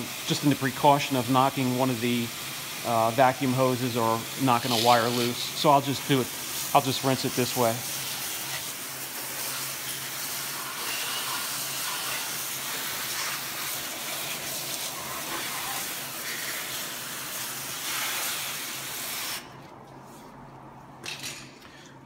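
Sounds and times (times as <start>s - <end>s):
hose spray hissing: 0.0s - 19.5s.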